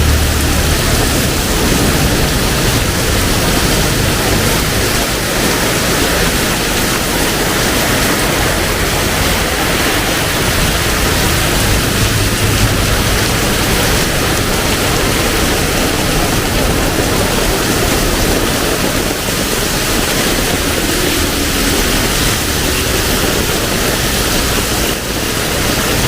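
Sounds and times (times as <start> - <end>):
heavy rain pouring: 0.0 - 26.0
low rumble: 0.0 - 26.0.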